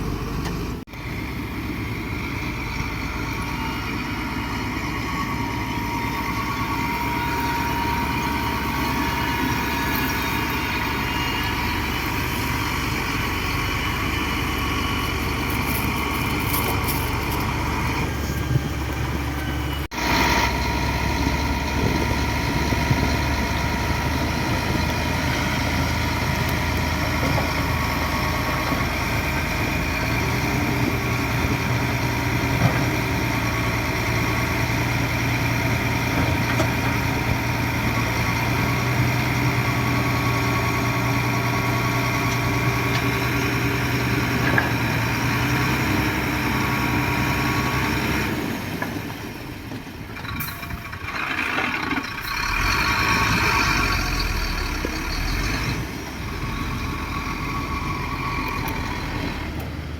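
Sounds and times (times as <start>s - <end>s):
heavy machinery diesel engine running: 0.0s - 59.9s.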